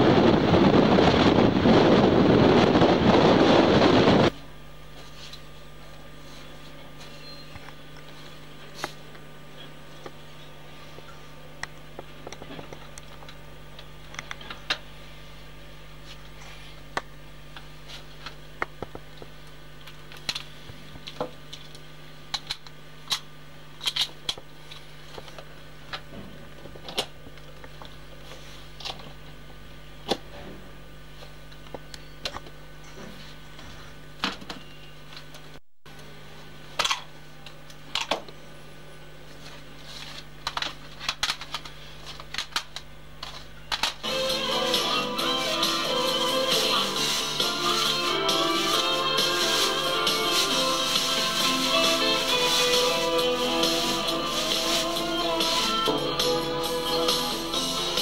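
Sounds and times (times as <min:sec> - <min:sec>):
camcorder electrical hum: 0:00.0 - 0:58.0.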